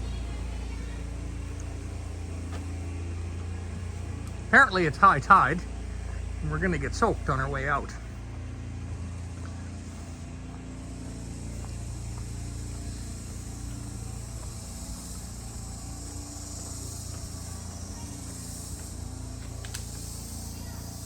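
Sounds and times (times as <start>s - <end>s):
cicadas buzzing: 0.0s - 21.0s
low motor hum: 0.0s - 21.0s.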